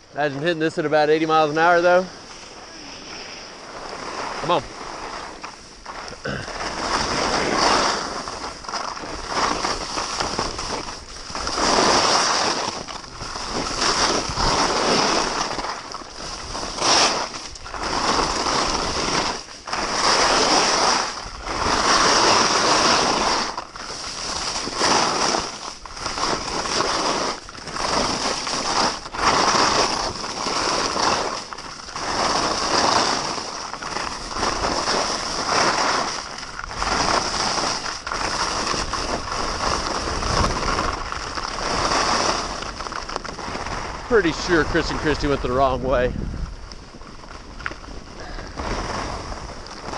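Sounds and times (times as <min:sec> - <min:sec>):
skis scraping on snow: 0:00.0 - 0:49.9.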